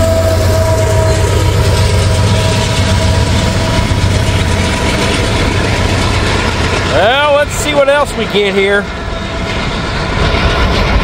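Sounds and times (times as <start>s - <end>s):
high whine: 0.0s - 11.0s
locomotive engine drone: 0.0s - 11.0s.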